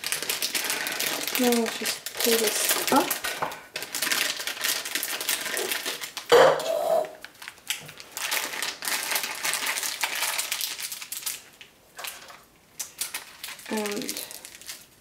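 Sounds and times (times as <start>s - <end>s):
piping bag rustling and crinkling: 0.0s - 15.0s.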